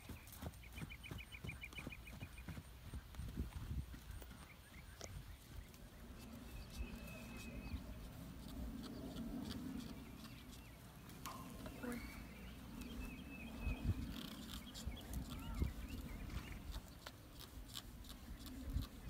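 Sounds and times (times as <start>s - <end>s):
hooves trotting on dirt: 0.0s - 19.0s.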